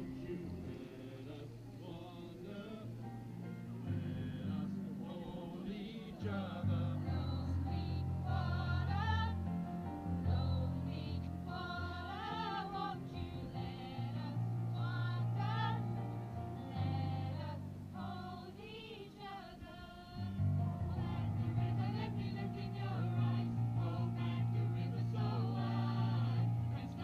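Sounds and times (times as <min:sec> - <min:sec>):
electronic keyboard accompaniment: 0:00.0 - 0:01.8, 0:02.4 - 0:27.0
group singing a carol: 0:00.0 - 0:27.0.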